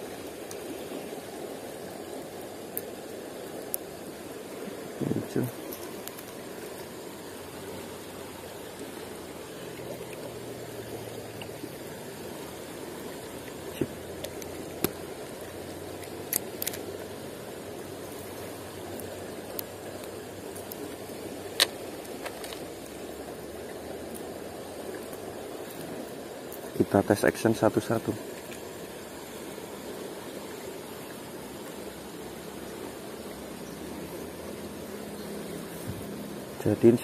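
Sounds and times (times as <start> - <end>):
river flowing over stones: 0.0 - 37.0.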